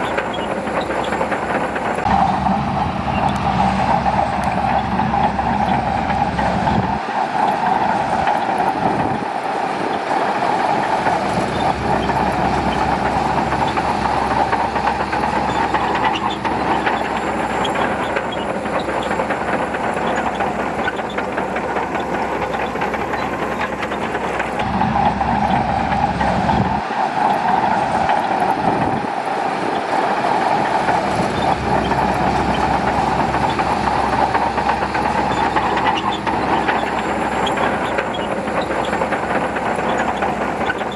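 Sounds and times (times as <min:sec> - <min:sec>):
bulldozer diesel engine: 0:00.0 - 0:40.9
tracks clanking: 0:00.0 - 0:40.9.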